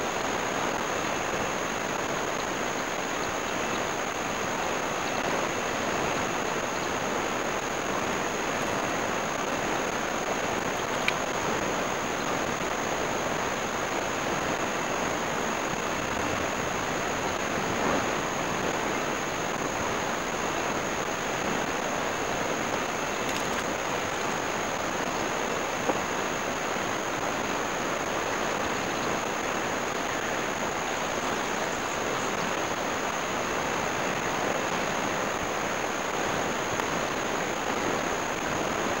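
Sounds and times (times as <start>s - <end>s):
ocean surf: 0.0s - 39.0s.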